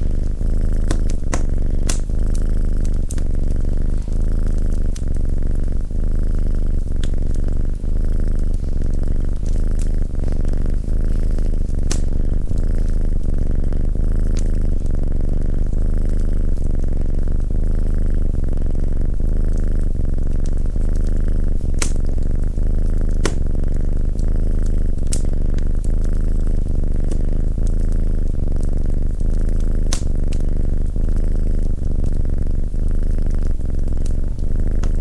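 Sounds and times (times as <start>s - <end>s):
wood fire crackling: 0.0s - 19.0s, 19.8s - 35.0s
cat purring: 0.0s - 35.0s.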